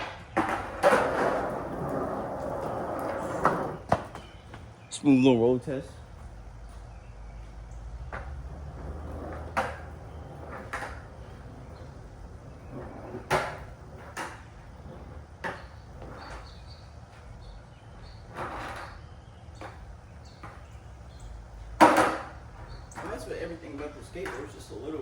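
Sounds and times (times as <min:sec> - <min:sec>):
skateboard clacks: 0:00.0 - 0:04.7, 0:06.0 - 0:25.0
skateboard rolling on pavement: 0:00.0 - 0:25.0.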